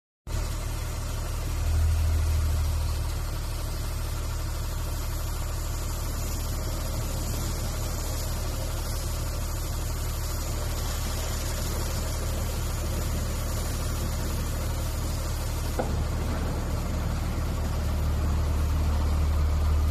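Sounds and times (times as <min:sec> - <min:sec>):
bus washing machine humming: 0:00.3 - 0:19.9.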